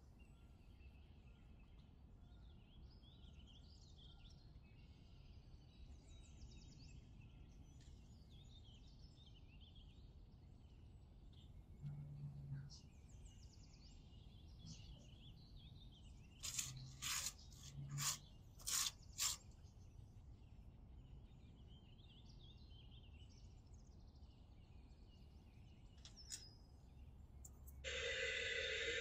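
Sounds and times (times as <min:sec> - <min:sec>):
faint birdsong: 0:00.0 - 0:29.0.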